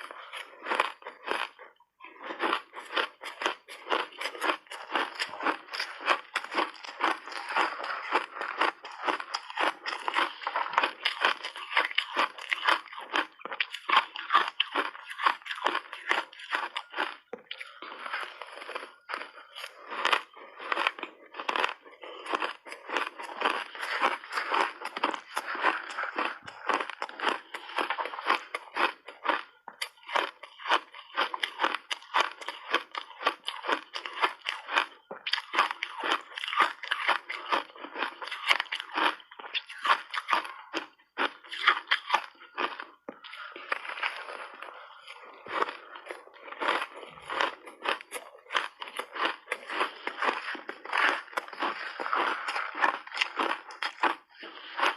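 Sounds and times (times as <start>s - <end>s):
ice being crunched and chewed: 0.0s - 54.9s.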